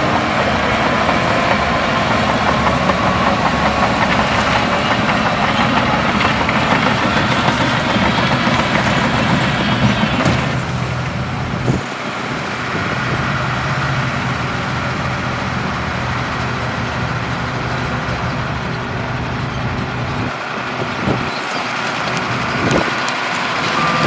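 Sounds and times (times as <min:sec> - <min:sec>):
heavy diesel machinery running: 0:00.0 - 0:24.0.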